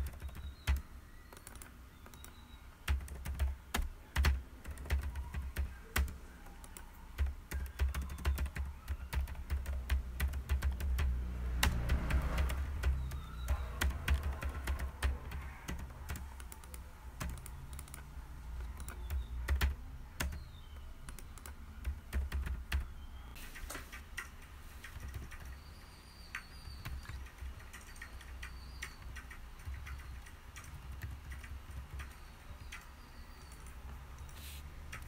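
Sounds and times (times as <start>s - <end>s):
typing on computer keyboard: 0.0s - 22.9s, 23.6s - 35.0s.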